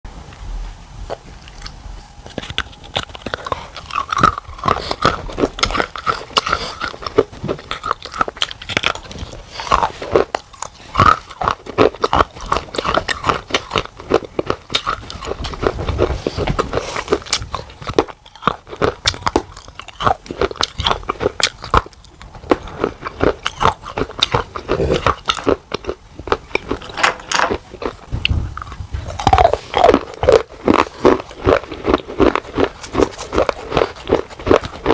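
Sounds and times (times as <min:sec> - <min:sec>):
clay pot pieces crunching: 0:02.3 - 0:34.9.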